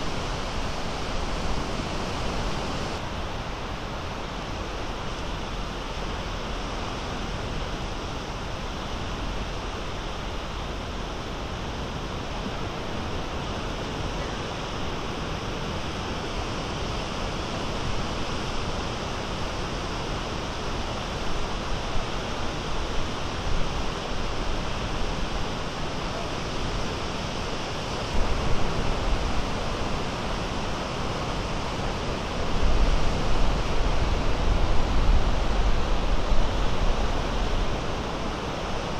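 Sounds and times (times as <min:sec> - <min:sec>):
low rumble of waves: 0:00.0 - 0:38.9
waves breaking on shore: 0:00.0 - 0:38.9.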